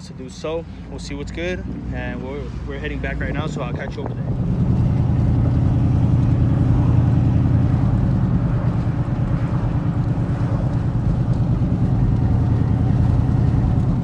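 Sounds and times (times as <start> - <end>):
vehicle engine low drone: 0.0 - 14.0.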